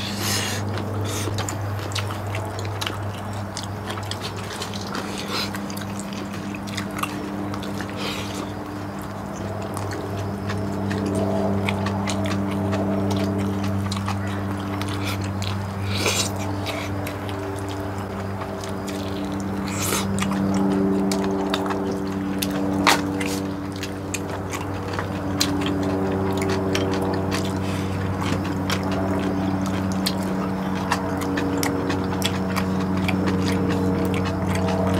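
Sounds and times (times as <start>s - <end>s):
low humming drone: 0.0s - 34.9s
wet chewing and slurping noodles: 0.0s - 34.9s.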